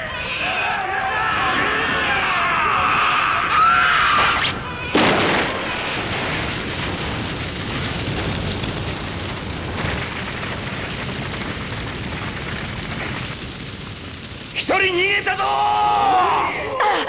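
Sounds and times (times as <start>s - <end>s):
fire blast: 0.0s - 17.0s
rushing fire blaze: 0.0s - 17.0s.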